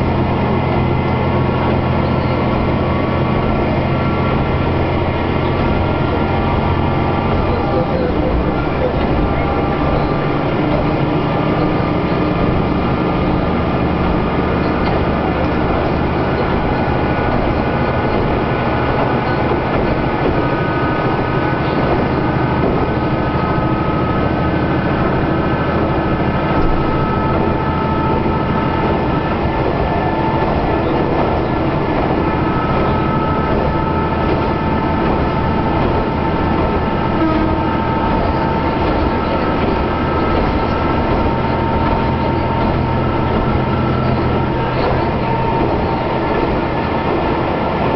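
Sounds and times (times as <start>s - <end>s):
steady drifting tones: 0.0s - 47.9s
train rumbling on rails: 0.0s - 47.9s.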